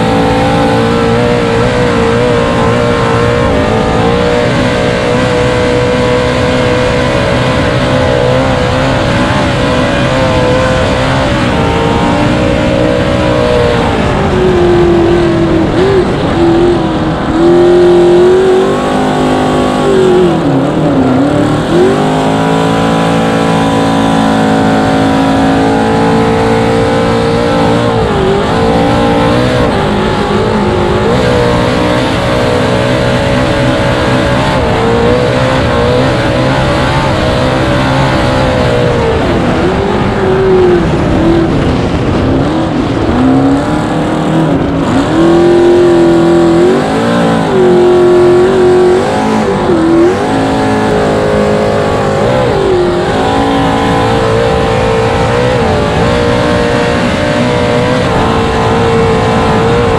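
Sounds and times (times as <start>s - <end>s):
boat engine racing: 0.0s - 59.9s
constant rushing noise: 0.0s - 59.9s.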